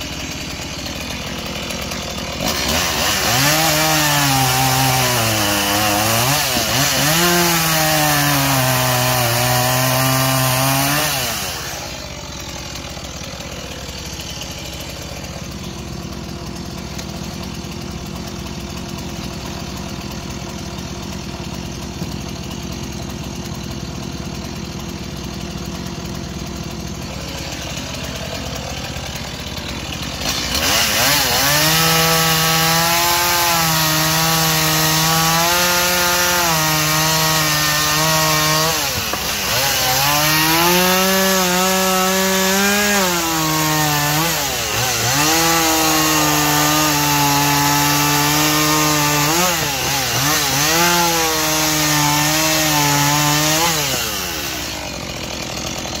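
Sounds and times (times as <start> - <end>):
chainsaw cutting wood: 0.0 - 56.0
chainsaw engine revving: 0.0 - 56.0.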